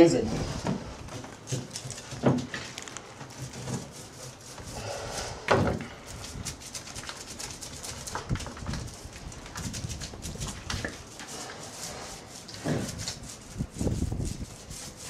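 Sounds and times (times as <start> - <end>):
brush dabbing and rubbing on hull: 0.0 - 15.0.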